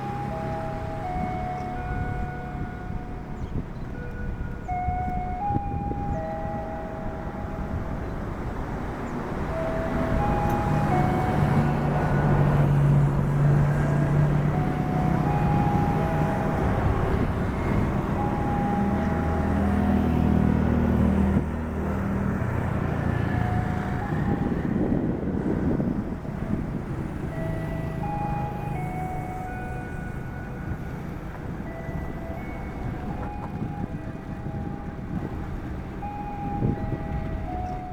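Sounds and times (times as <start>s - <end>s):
diesel locomotive engine rumble: 0.0s - 37.9s.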